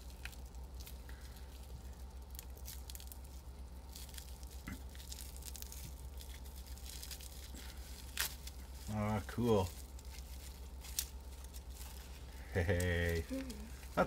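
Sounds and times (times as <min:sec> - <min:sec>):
plastic wrapping crinkling: 0:00.0 - 0:14.0
steady low hum: 0:00.0 - 0:14.0.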